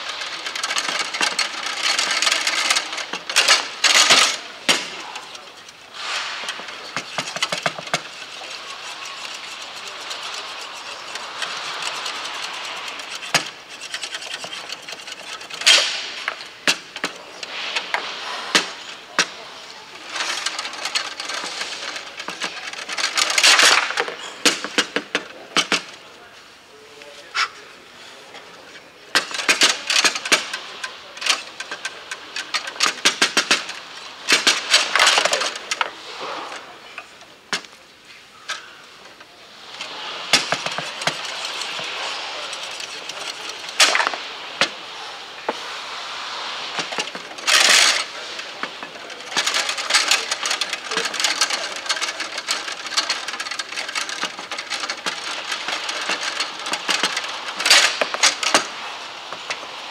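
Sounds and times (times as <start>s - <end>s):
rods and handles rattling: 0.0s - 26.3s, 27.2s - 59.9s.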